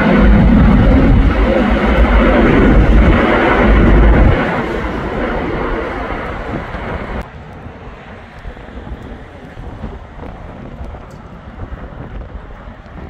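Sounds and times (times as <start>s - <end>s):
heavy low rumble: 0.0s - 13.0s
jet airliner engines climbing: 0.0s - 13.0s.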